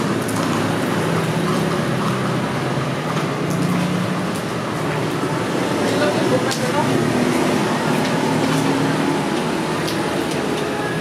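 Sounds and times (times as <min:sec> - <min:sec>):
street noise: 0:00.0 - 0:11.0
traffic hum: 0:00.0 - 0:11.0.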